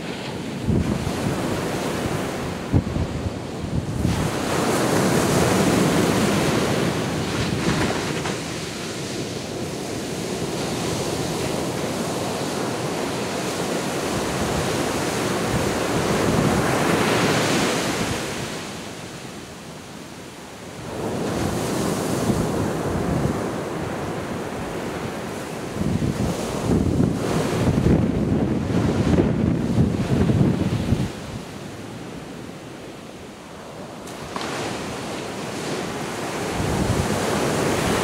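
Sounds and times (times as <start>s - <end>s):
waves breaking on beach: 0.0s - 38.0s.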